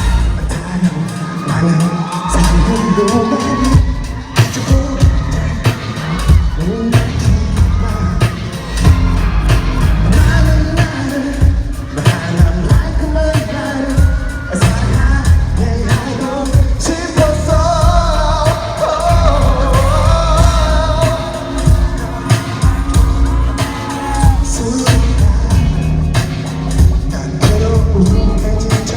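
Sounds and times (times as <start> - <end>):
person singing: 0.0 - 28.9
pop-rock band with drums and bass: 0.0 - 28.9.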